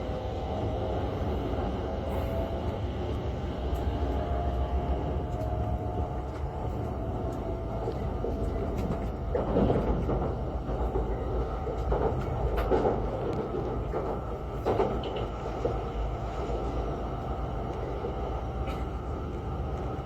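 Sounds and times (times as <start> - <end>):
high-speed train rumbling: 0.0 - 20.0.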